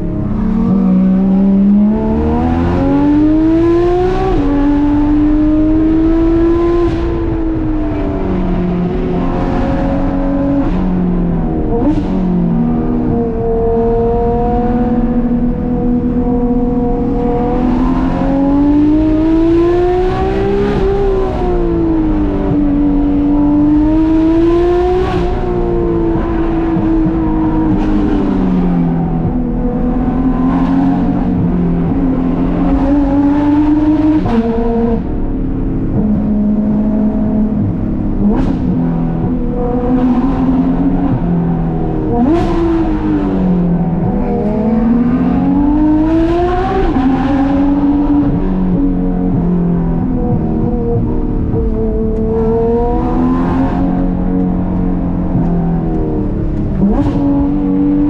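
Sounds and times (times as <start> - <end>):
sports car engine revving: 0.0 - 58.0.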